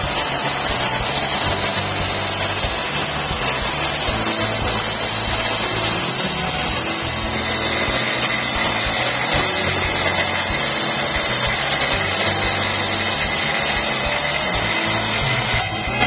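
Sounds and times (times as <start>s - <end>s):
wet tile saw cutting: 0.0s - 16.0s.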